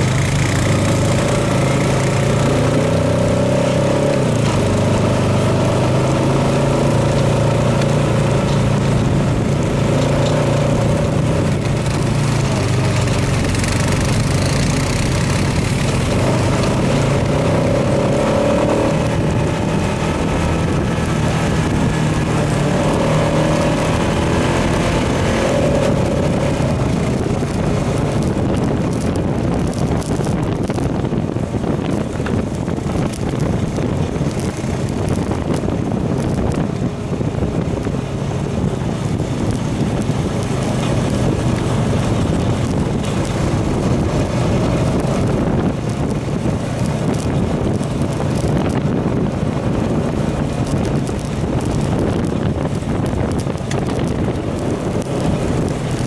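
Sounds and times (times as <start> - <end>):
atv engine running: 0.0 - 56.0
wind buffeting microphone: 0.0 - 56.0.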